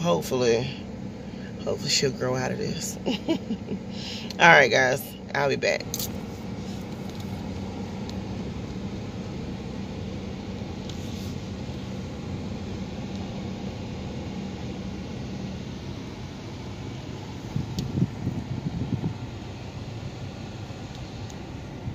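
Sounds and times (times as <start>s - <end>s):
car engine hum inside cabin: 0.0s - 21.9s.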